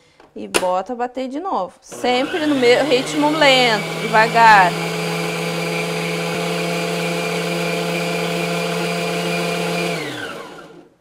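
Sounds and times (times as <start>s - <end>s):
stand mixer motor running: 1.9s - 10.9s.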